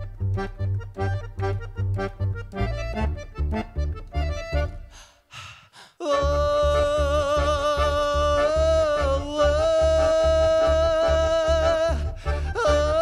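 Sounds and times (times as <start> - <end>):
tango music: 0.0 - 4.9, 6.1 - 13.0.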